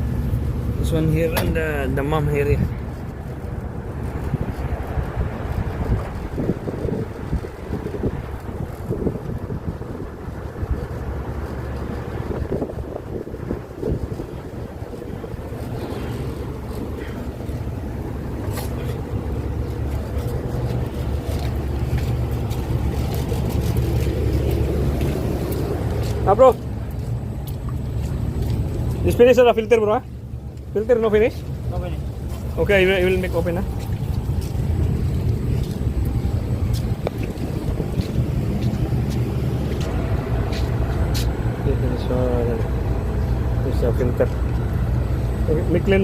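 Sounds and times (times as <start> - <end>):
air conditioning units humming: 0.0 - 46.0.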